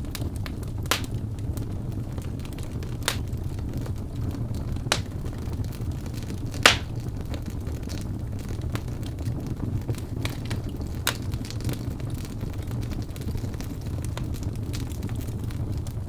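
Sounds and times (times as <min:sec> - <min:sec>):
fire popping and crackling: 0:00.0 - 0:16.0
flames rumbling: 0:00.0 - 0:16.0.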